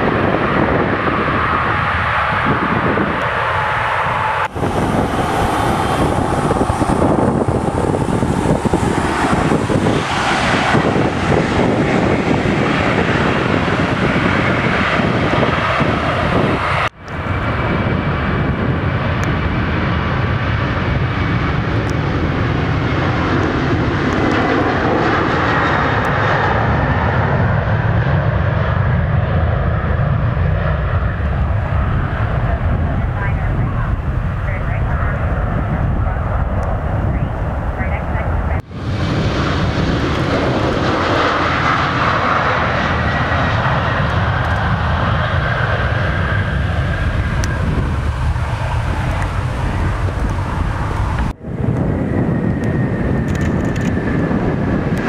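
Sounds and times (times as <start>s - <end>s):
jet engine roar: 0.0s - 55.0s
jet taking off: 0.0s - 55.0s.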